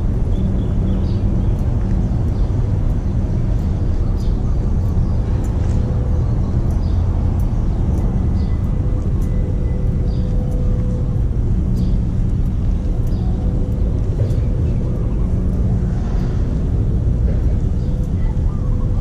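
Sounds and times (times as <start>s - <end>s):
faint steady hum: 0.0s - 19.0s
low rumble of street traffic: 0.0s - 19.0s.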